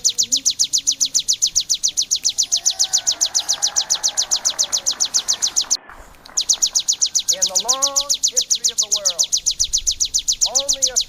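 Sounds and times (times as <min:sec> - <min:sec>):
bird calling in rapid sharp notes: 0:00.0 - 0:11.0.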